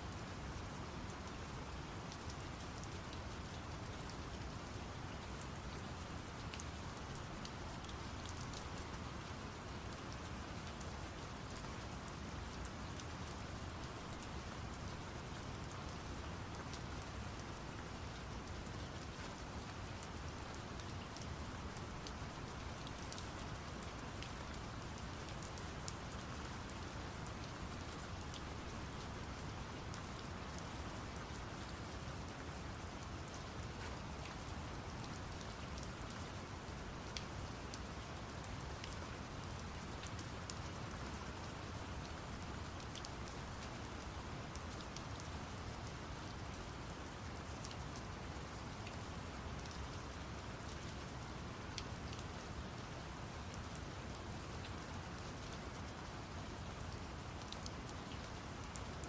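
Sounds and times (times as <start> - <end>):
low hiss: 0.0 - 59.0
steady rain falling: 0.0 - 59.0.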